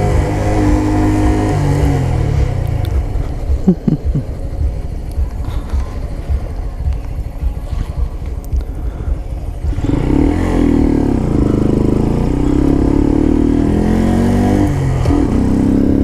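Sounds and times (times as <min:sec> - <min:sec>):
engine throttle blips: 0:00.0 - 0:16.0
motorcycle engine running: 0:00.0 - 0:16.0.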